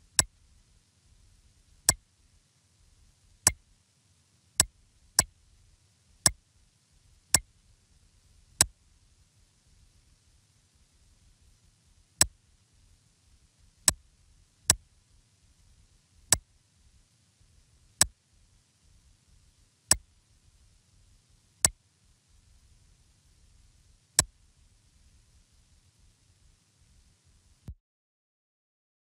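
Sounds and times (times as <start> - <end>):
faint low hiss: 0.0 - 27.8.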